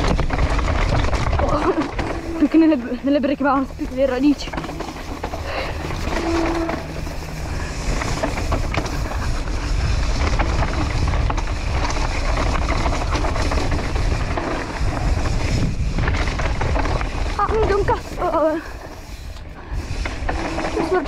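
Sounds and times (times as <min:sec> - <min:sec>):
bike clicks and knocks: 0:00.0 - 0:21.0
bike tyres rolling on gravel: 0:00.0 - 0:21.0
wind on microphone: 0:00.0 - 0:21.0.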